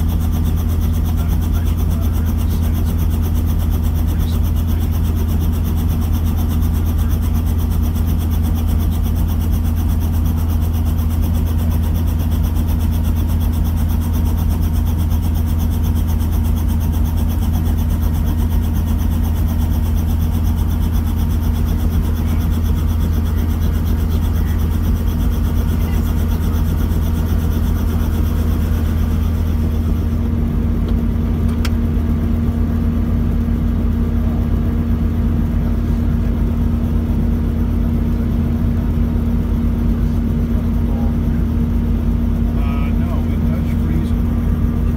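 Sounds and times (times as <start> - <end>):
loud low engine drone: 0.0 - 44.9.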